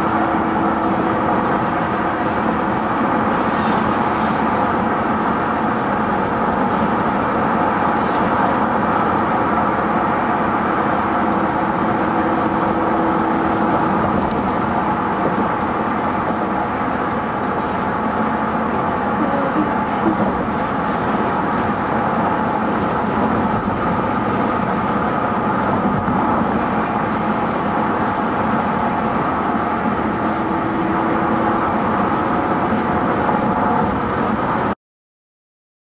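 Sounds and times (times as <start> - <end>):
road noise inside truck cab: 0.0 - 34.8.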